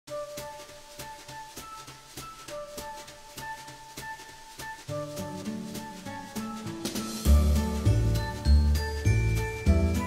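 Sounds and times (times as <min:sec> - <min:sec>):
instrumental music with steady beat: 0:00.1 - 0:10.0.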